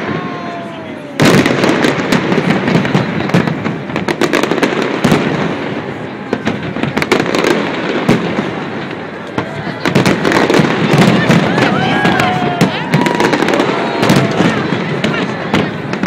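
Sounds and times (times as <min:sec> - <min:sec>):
firework bang: 0:00.0 - 0:16.0
fireworks crackling and popping: 0:00.0 - 0:16.0.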